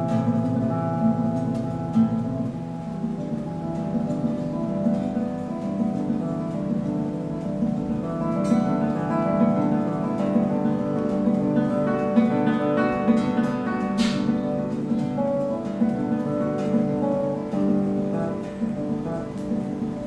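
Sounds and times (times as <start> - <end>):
fingerstyle classical guitar: 0.0 - 20.0.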